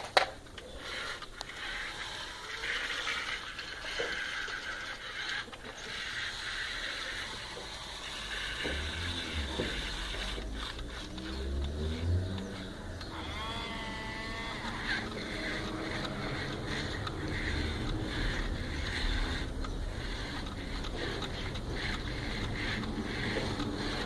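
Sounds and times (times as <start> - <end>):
toy motors and gears whirring: 0.0 - 24.0.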